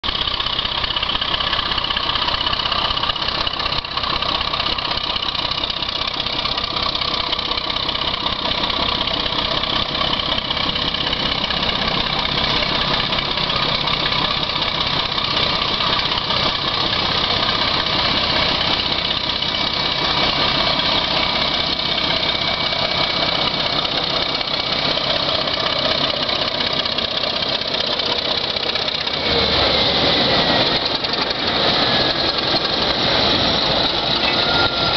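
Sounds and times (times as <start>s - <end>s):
locomotive diesel engines droning: 0.0s - 34.9s.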